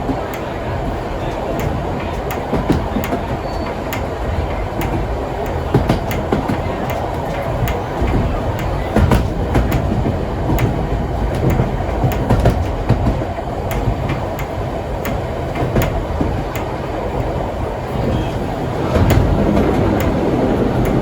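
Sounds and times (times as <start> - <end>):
train carriages rumbling: 0.0 - 21.0
wheels clicking over rail joints: 0.0 - 21.0.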